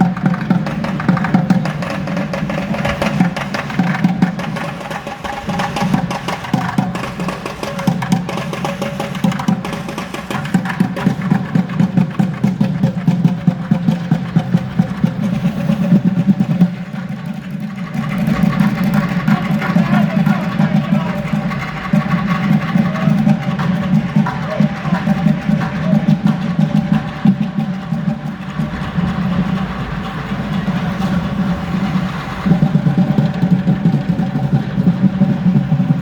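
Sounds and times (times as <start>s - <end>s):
fast dense drumming: 0.0s - 36.0s.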